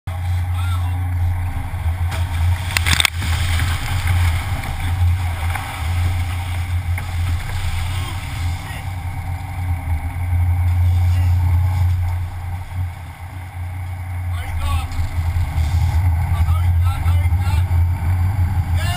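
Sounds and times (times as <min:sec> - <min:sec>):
boat engines droning: 0:00.1 - 0:18.9
churning seawater: 0:00.1 - 0:18.9
wind: 0:00.1 - 0:18.9.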